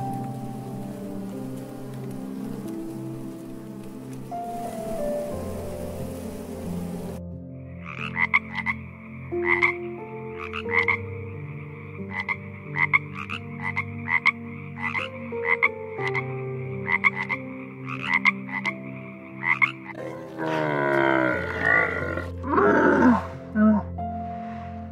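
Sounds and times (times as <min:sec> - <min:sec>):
toads croaking: 0:00.0 - 0:24.1.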